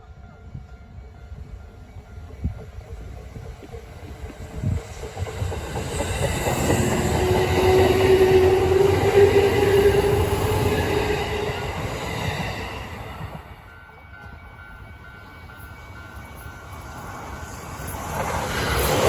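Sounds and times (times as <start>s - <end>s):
train passing: 0.0s - 19.0s.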